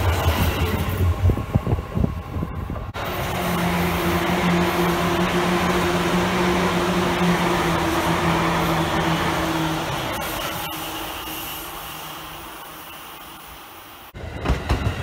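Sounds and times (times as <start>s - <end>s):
electric trains passing: 0.0s - 15.0s.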